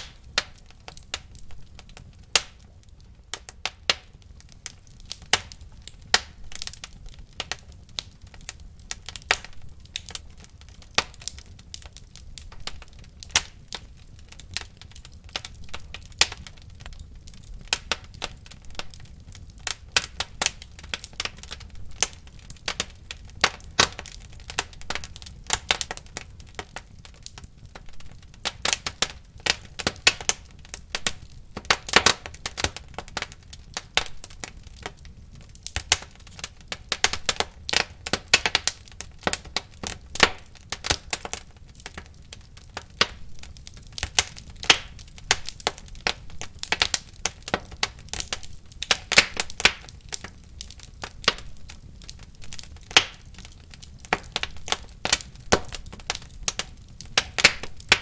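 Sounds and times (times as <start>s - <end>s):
flames rumbling: 0.0s - 58.0s
wood fire crackling and popping: 0.0s - 58.0s.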